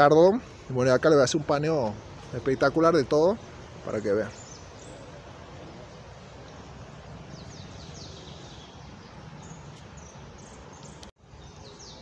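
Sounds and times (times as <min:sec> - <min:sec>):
small birds chirping: 0:00.0 - 0:12.0
steady background hiss: 0:00.0 - 0:12.0.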